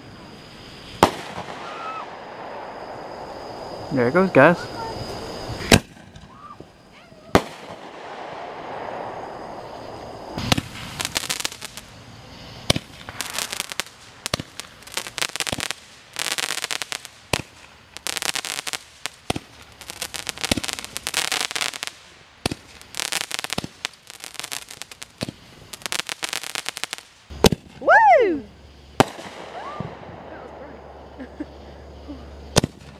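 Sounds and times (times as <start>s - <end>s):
crackling of bursting stars: 0.0s - 27.8s
firework hiss: 0.0s - 32.9s
firework bangs: 0.6s - 3.8s, 4.7s - 27.8s, 28.9s - 32.9s.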